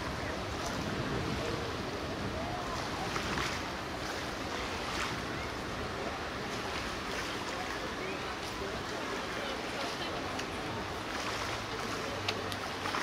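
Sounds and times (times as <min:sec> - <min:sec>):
rushing water: 0:00.0 - 0:13.0
wind: 0:00.0 - 0:13.0.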